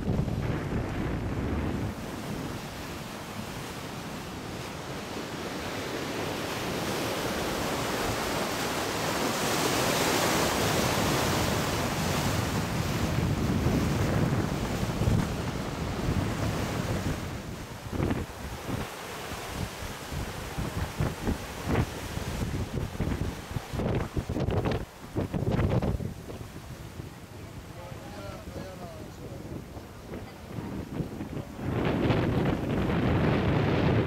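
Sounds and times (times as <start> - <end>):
sea water rushing along hull: 0.0 - 34.0
wind buffeting microphone: 0.0 - 34.0.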